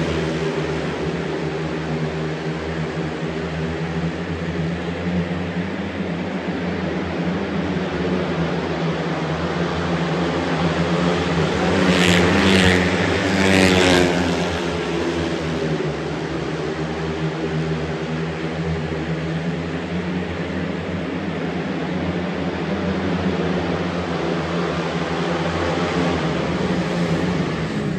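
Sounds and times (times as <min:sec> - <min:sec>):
motorcycles racing at high revs: 0:00.0 - 0:27.9.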